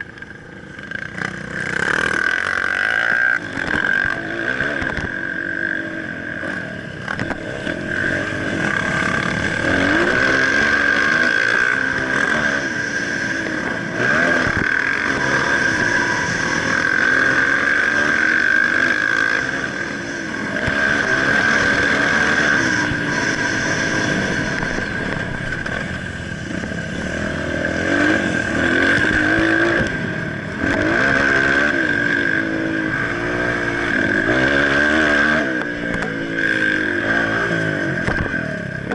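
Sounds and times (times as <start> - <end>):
dirt bike engine revving: 0.0 - 38.9
high-pitched whine: 0.0 - 38.9.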